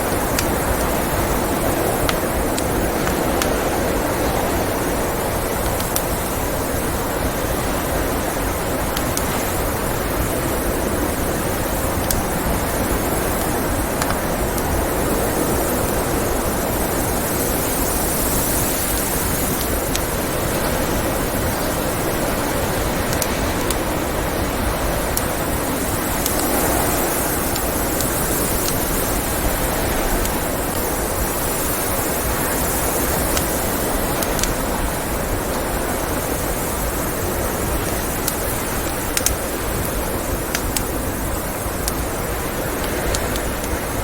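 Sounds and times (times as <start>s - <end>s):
blizzard wind: 0.0s - 44.0s
wood fire crackling: 0.0s - 44.0s.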